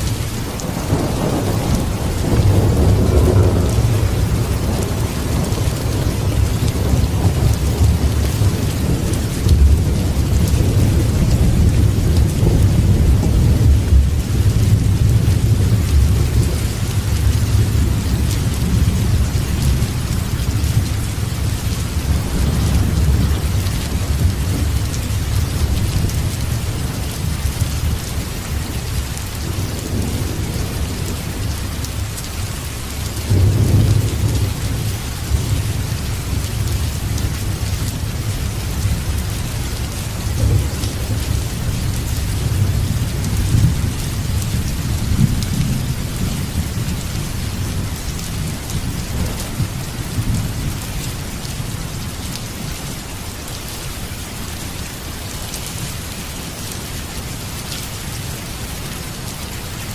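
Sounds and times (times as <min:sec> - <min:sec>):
low rolling thunder: 0:00.0 - 0:52.1
heavy rain: 0:00.0 - 0:59.9.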